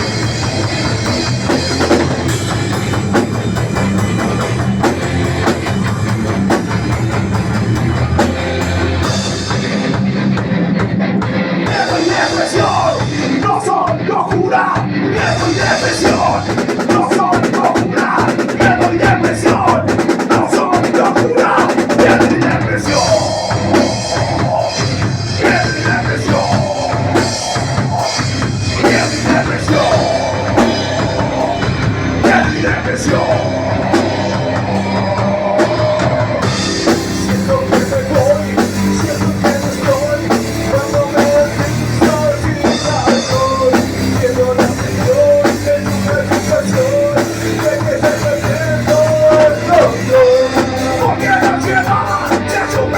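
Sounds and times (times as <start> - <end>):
distorted electric guitars: 0.0 - 52.9
pounding drum kit: 0.0 - 52.9.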